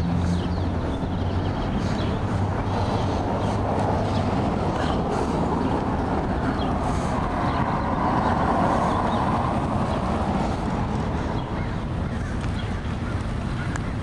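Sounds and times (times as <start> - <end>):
cars driving past: 0.0 - 14.0.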